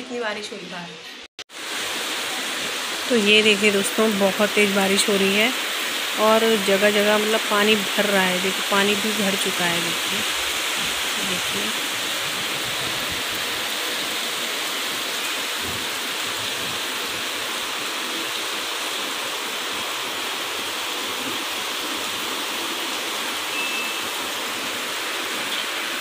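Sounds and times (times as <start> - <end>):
heavy rain on wet pavement: 1.5 - 26.0.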